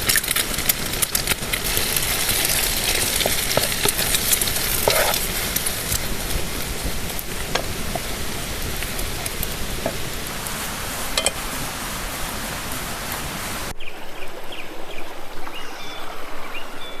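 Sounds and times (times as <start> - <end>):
food sizzling in a frying pan: 0.0 - 13.7.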